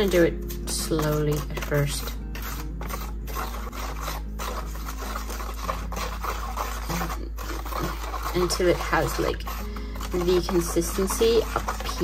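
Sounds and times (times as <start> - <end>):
grout being stirred in container: 0.0 - 12.0.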